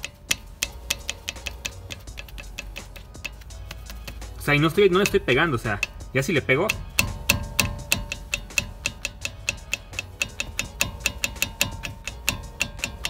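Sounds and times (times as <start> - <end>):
metallic clicks of brake caliper: 0.0 - 13.0.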